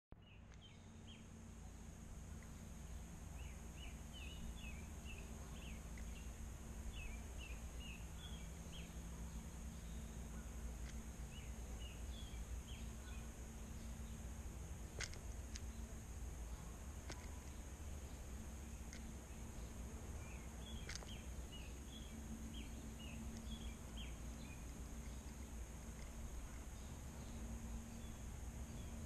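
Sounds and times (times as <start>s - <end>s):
steady low hum: 0.1s - 29.0s
small bird chirping: 0.2s - 29.0s.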